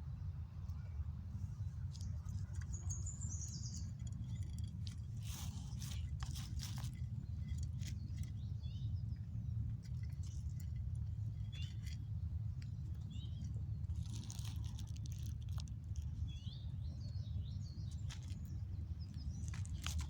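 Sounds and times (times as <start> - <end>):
steady low rumble: 0.0 - 20.0
small crackling clicks: 1.9 - 16.3, 17.8 - 20.0.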